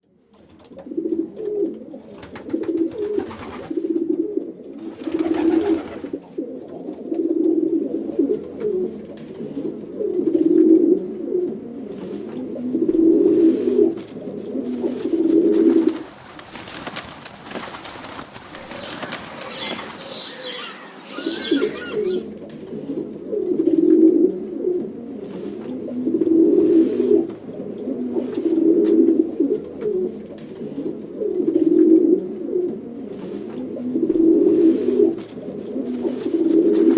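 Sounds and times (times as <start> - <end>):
pigeons cooing: 0.6 - 36.9.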